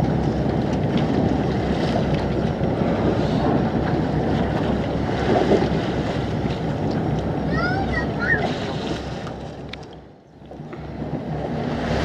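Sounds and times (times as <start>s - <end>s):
sea noise: 0.0s - 12.0s
wind buffeting microphone: 0.0s - 12.0s.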